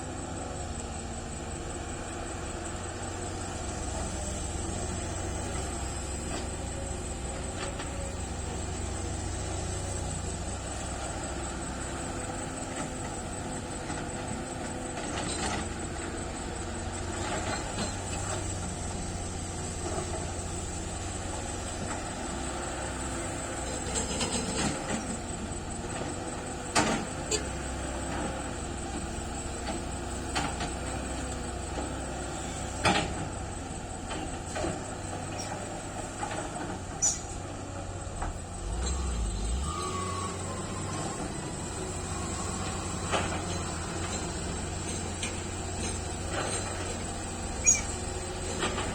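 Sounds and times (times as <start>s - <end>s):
excavator diesel engine: 0.0s - 48.9s
hydraulic whine: 0.0s - 48.9s.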